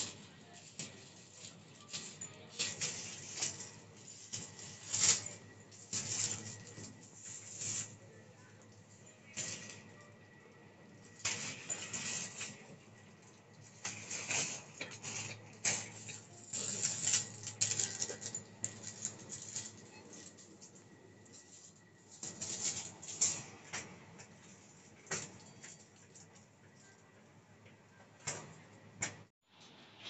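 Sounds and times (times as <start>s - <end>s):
rustling and crinkling: 0.0s - 10.0s, 11.0s - 27.1s.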